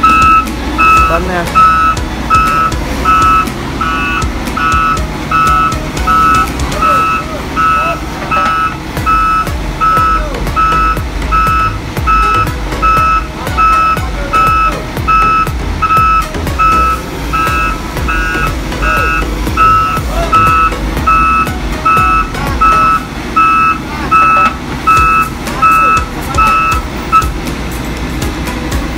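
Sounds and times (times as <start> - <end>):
excavator travel alarm beeping: 0.0 - 27.5
diesel engine rumble: 0.0 - 28.9.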